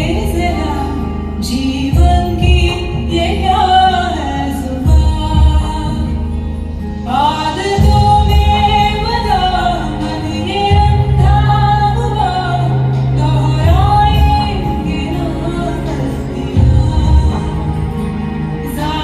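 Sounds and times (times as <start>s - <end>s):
accompaniment with steady bass line: 0.0s - 19.0s
woman singing long gliding notes: 0.0s - 19.0s.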